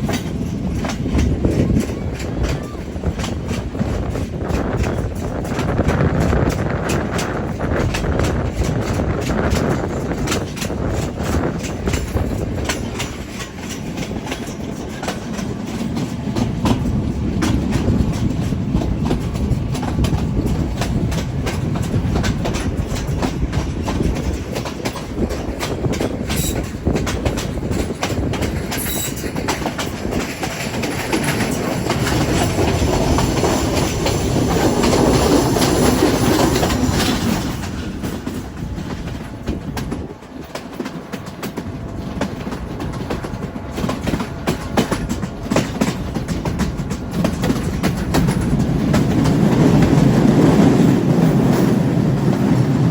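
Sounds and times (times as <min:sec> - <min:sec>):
train wheels clicking on rails: 0:00.0 - 0:52.9.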